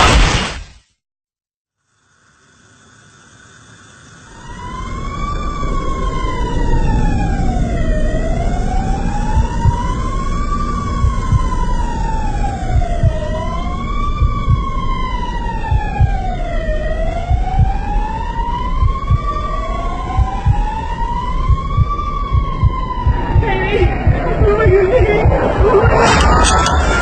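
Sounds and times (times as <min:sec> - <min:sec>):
emergency siren wailing: 0:04.2 - 0:27.0
low vehicle rumble: 0:04.5 - 0:27.0.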